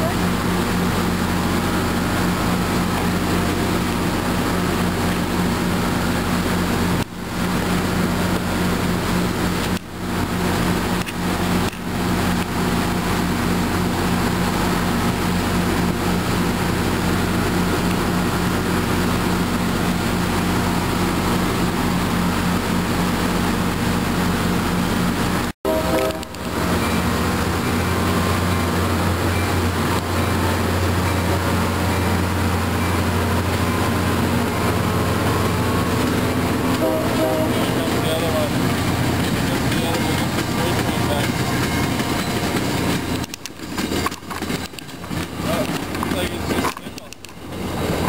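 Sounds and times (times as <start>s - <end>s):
constant hum: 0.0s - 48.0s
diesel locomotive idling: 0.0s - 48.0s.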